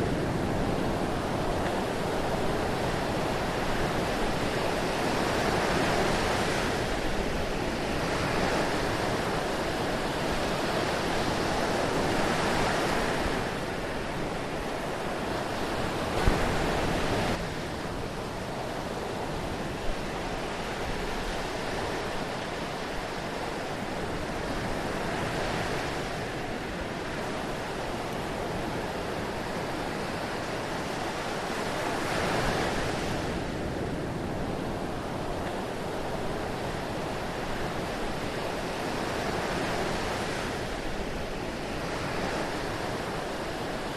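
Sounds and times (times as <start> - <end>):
sea waves washing in: 0.0 - 43.9.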